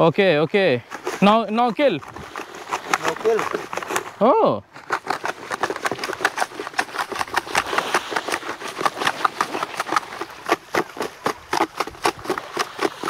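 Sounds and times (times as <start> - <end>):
sea urchins clattering in tub: 0.0 - 13.0
water sloshing: 0.0 - 13.0.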